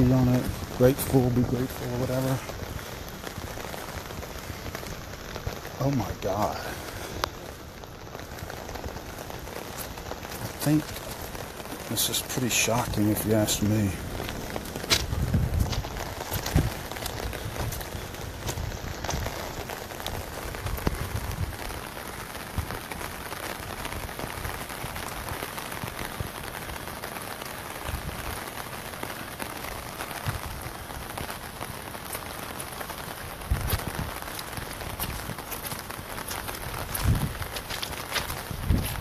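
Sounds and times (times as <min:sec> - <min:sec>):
heavy rain hissing: 0:00.0 - 0:39.0
raindrops ticking: 0:00.0 - 0:39.0.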